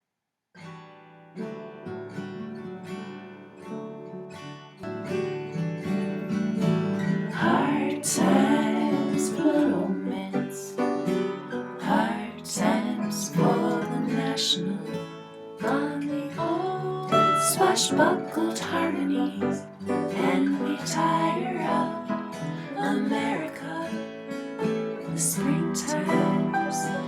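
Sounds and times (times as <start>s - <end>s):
acoustic guitar strumming and picking: 0.6s - 27.0s.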